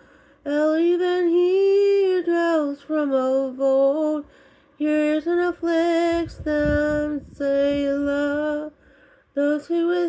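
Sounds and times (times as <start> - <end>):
woman singing wordless vocalise: 0.1 - 10.0.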